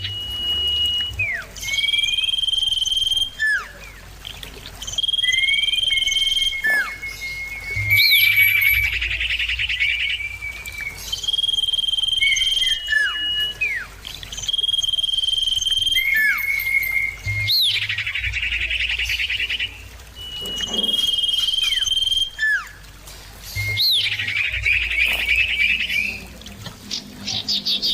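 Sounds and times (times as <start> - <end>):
bird singing whistles and trills: 0.0 - 27.9.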